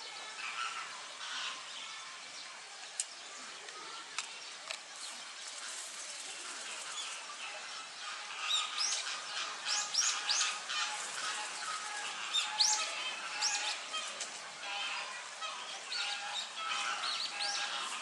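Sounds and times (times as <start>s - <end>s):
outdoor background noise: 0.0s - 18.0s
small birds chirping: 0.0s - 18.0s.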